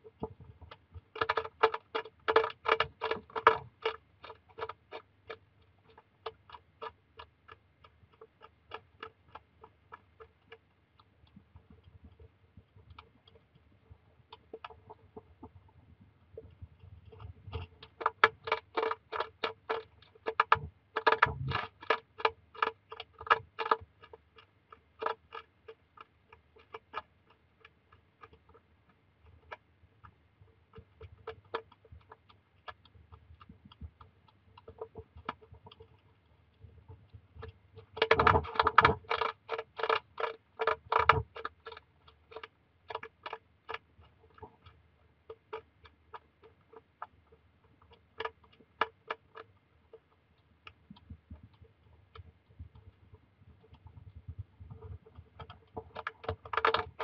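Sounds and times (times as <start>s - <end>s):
hedgehog crunching dry food: 0.1s - 57.0s.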